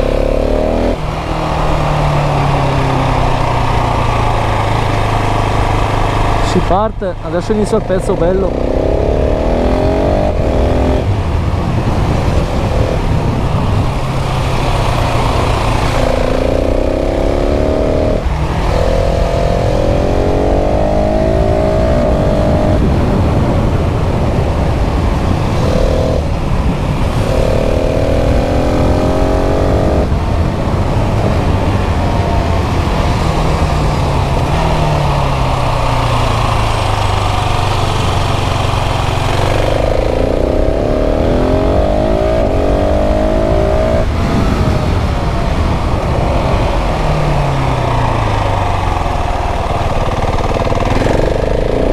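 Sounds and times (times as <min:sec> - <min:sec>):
motorcycle engine accelerating: 0:00.0 - 0:51.9
wind rushing: 0:00.0 - 0:51.9.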